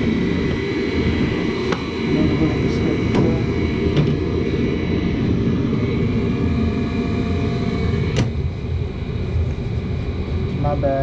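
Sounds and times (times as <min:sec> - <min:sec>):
furnace burner and blower roar: 0:00.0 - 0:11.0.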